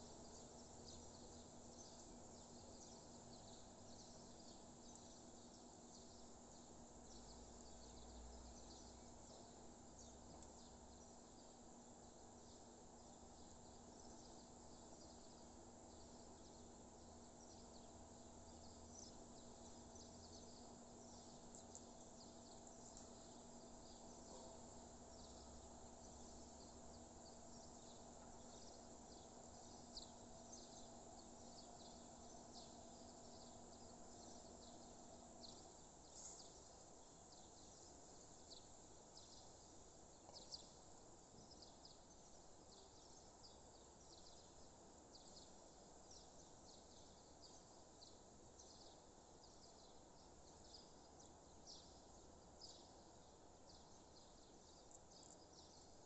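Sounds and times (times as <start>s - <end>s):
low hiss and hum: 0.0s - 56.0s.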